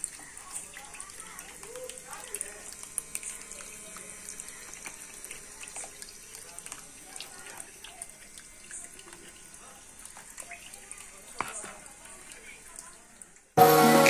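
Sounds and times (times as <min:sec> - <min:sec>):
fountain water trickling and dripping: 0:00.0 - 0:14.0.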